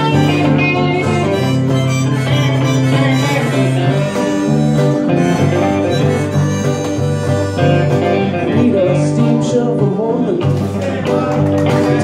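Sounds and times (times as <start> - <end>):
harmonica through a microphone: 0.0 - 9.8
acoustic and electric guitars: 0.0 - 12.0.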